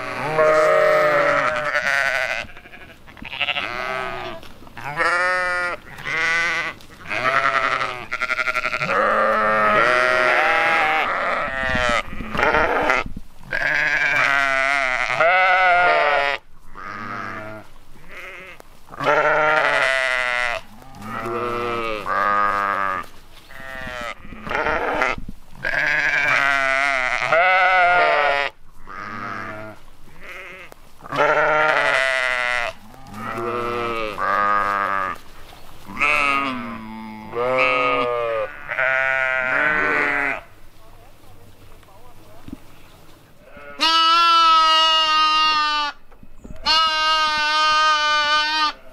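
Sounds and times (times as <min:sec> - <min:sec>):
sheep bleating: 0:00.0 - 0:35.2, 0:35.9 - 0:40.5, 0:43.4 - 0:46.0, 0:46.6 - 0:48.9.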